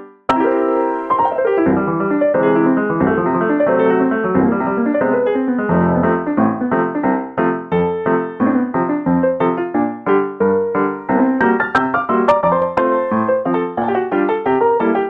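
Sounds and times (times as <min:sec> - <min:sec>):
piano music: 0:00.3 - 0:15.0.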